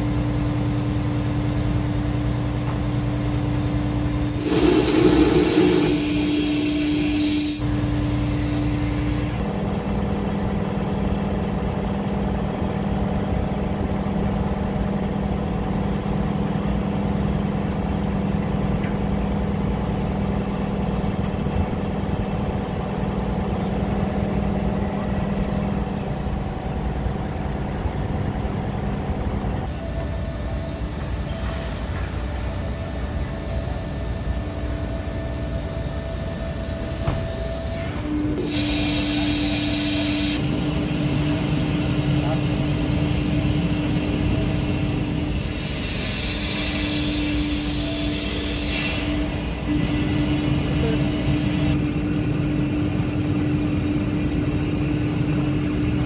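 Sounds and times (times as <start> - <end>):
machinery drone: 3.5 - 56.0.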